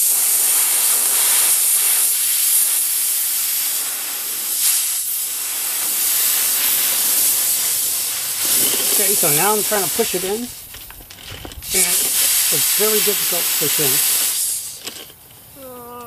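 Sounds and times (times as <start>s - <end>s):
air hissing from tire: 0.0s - 15.1s.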